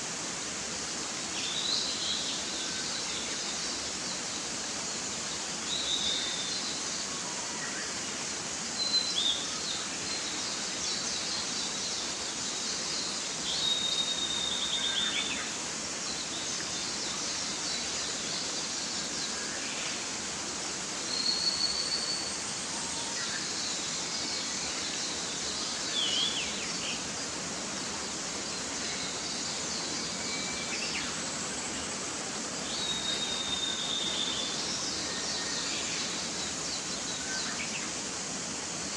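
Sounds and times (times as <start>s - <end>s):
mountain stream running: 0.0s - 38.9s.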